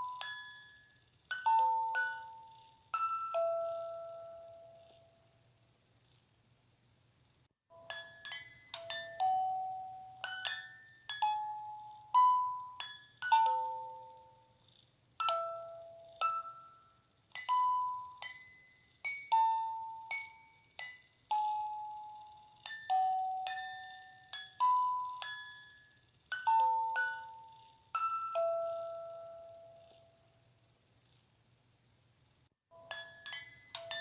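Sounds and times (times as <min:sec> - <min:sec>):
lullaby on chime tones: 0:00.0 - 0:05.2, 0:07.8 - 0:14.6, 0:15.2 - 0:30.3, 0:32.7 - 0:34.0.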